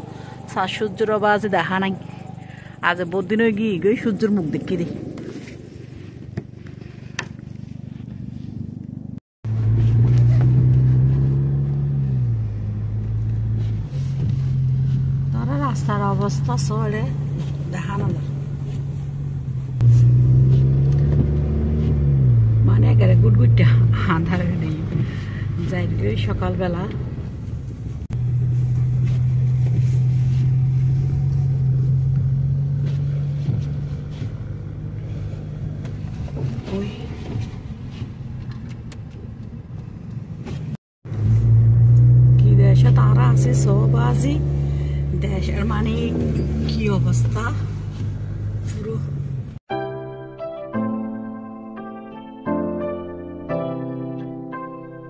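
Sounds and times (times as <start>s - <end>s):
car engine running: 0.0s - 49.6s
faint rumble: 0.0s - 49.6s.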